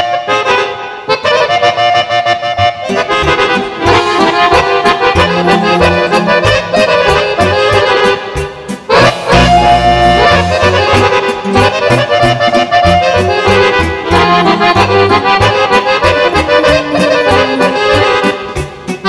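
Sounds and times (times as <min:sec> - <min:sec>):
accordions playing folk tune: 0:00.0 - 0:19.0
bass line: 0:02.5 - 0:19.0
steady beat: 0:02.8 - 0:19.0.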